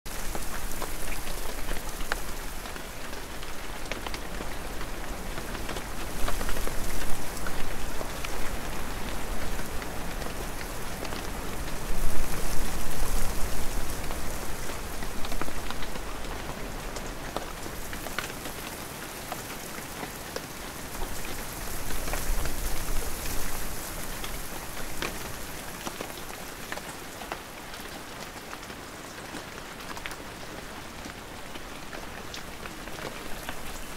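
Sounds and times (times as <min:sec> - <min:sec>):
close raindrops pattering: 0:00.1 - 0:33.9
steady rain: 0:00.1 - 0:33.9.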